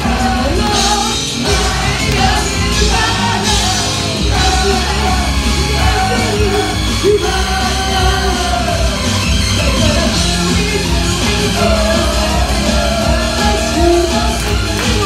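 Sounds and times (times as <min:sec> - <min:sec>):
vocalist singing and shouting: 0:00.0 - 0:15.0.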